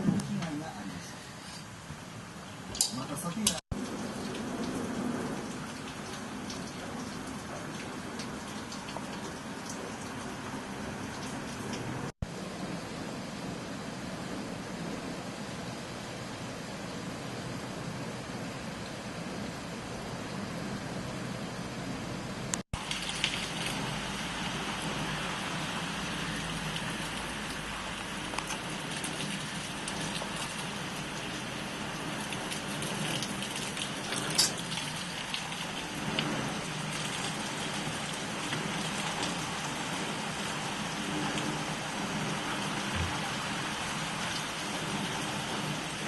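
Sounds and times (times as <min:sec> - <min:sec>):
heavy rain falling: 0:02.2 - 0:46.0.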